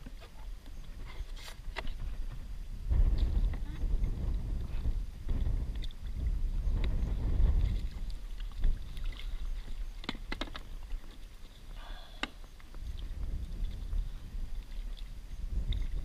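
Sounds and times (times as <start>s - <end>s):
rumble of wind and water: 0.0s - 16.0s.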